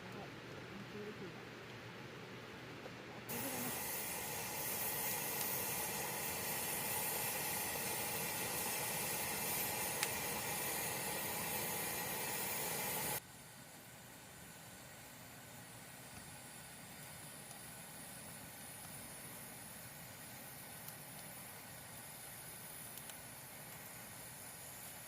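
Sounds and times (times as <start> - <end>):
camping stove hissing: 3.3 - 25.0.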